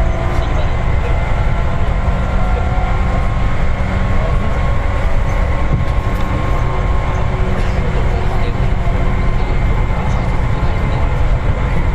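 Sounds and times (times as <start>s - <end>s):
train wheels rumbling on rails: 0.0s - 11.9s.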